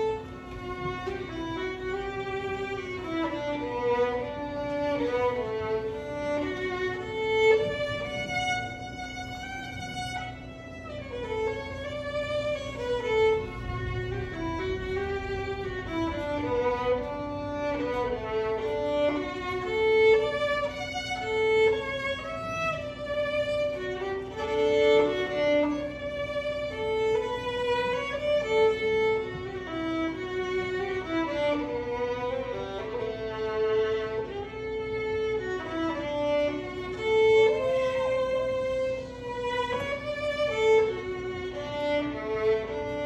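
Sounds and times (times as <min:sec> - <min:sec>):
solo violin slow melody: 0:00.0 - 0:43.0.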